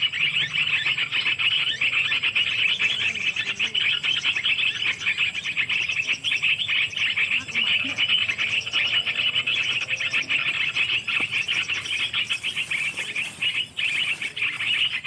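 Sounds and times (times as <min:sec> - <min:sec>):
high-pitched animal chirring: 0:00.0 - 0:15.0.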